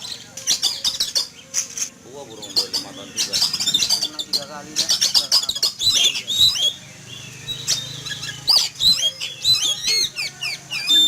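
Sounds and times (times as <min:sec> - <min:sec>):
bird singing whistles and chirps: 0:00.0 - 0:11.0.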